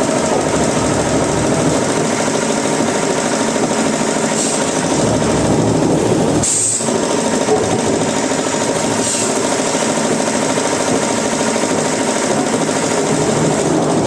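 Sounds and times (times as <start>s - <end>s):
machinery rattling: 0.0s - 14.0s.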